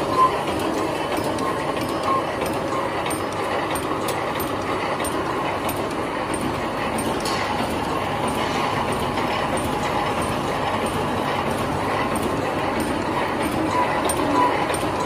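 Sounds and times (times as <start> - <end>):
welding machine clatter: 0.0 - 15.0.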